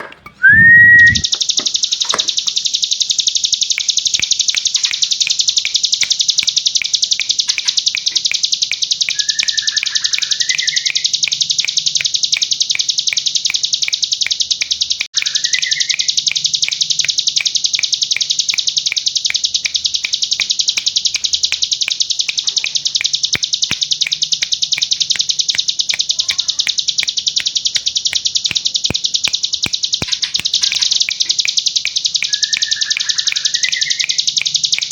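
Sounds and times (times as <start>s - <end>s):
rising whistled bird notes: 0.3s - 34.9s
bird buzzing trill: 0.7s - 34.9s.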